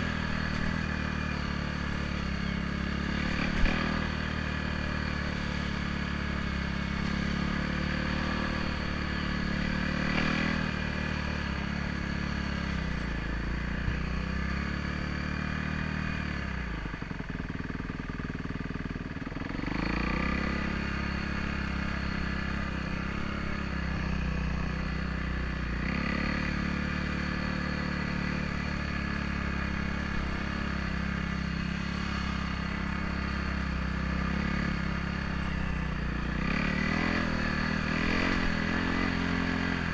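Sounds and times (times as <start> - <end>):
trail bike engine running: 0.0 - 39.9.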